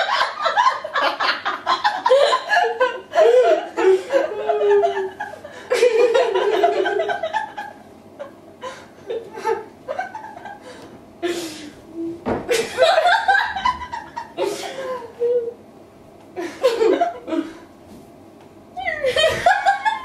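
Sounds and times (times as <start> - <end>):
women laughing: 0.0 - 11.5, 12.5 - 15.6, 16.4 - 17.6, 18.8 - 20.0.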